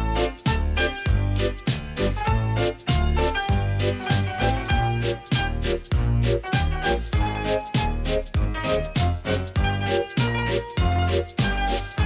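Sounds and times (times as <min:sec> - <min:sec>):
bouncing bass line: 0:00.0 - 0:12.0
upbeat instrumental music: 0:00.0 - 0:12.0.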